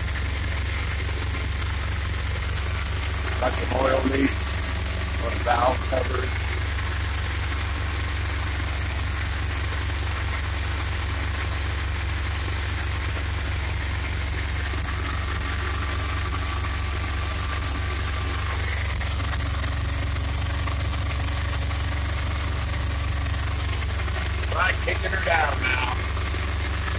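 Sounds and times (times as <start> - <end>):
van engine idling: 0.0 - 26.9.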